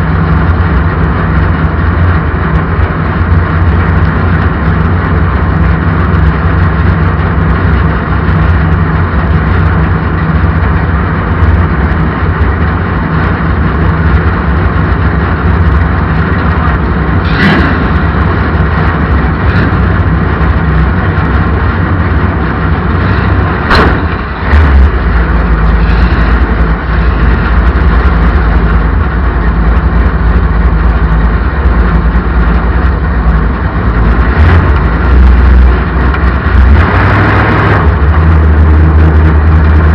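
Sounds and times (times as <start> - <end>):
race car engines running: 0.0 - 39.9.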